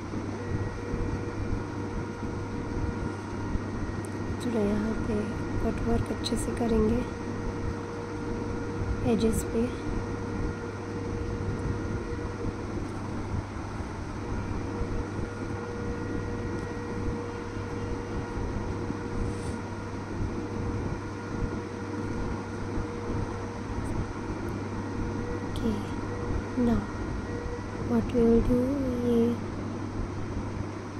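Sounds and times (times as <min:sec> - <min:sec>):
faint constant tones: 0:00.0 - 0:30.9
fan hum and hiss: 0:00.0 - 0:30.9.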